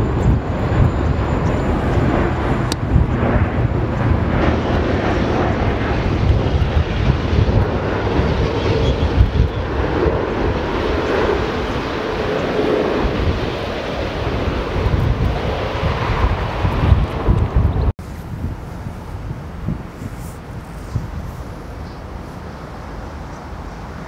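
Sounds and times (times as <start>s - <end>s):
jet engines rumble and hiss: 0.0s - 24.0s.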